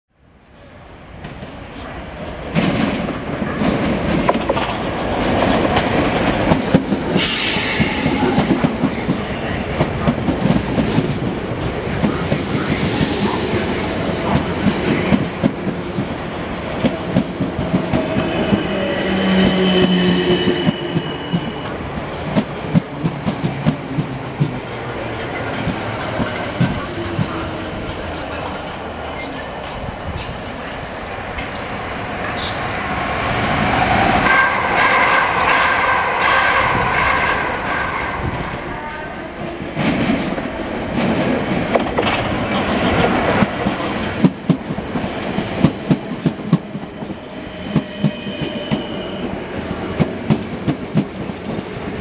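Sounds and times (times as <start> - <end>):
electric train passing: 0.8 - 52.0.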